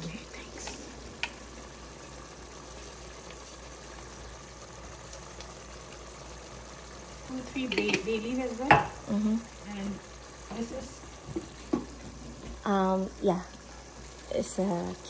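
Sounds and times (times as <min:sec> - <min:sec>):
gas stove hiss: 0:00.0 - 0:15.0.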